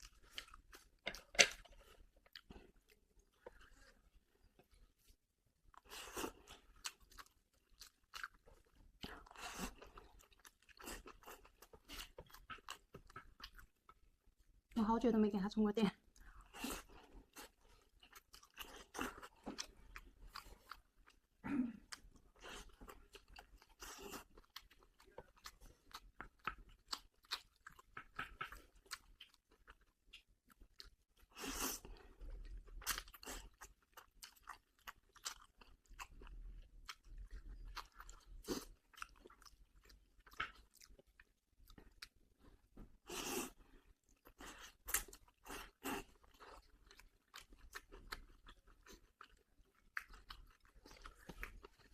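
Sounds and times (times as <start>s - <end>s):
wet chewing clicks and smacks: 5.7s - 14.2s, 16.1s - 21.3s, 21.9s - 42.7s, 44.0s - 51.9s.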